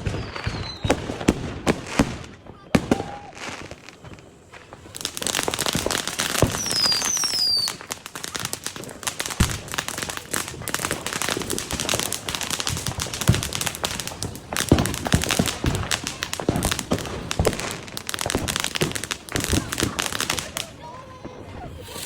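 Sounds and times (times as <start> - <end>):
falling firework whistles: 0.0 - 22.0
firework bangs: 0.0 - 22.0
fireworks crackling: 0.0 - 22.0.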